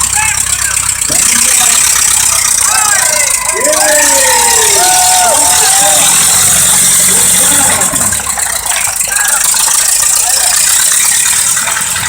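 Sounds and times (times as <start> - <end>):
car engine running with rattle: 0.0 - 12.0.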